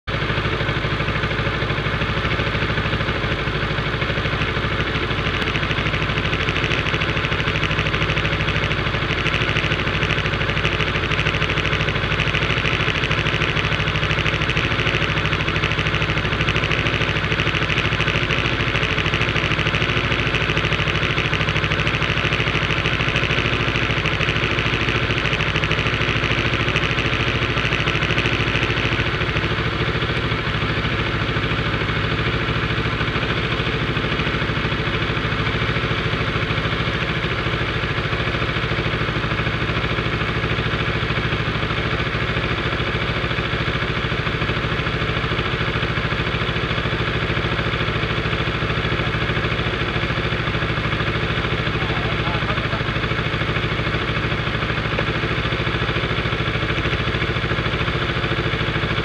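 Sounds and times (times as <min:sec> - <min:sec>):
motorcycle engine idling: 0:00.1 - 0:59.0.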